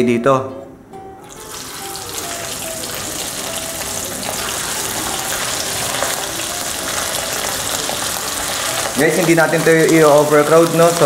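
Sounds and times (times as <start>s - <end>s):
meat sizzling in hot oil: 1.2s - 11.0s.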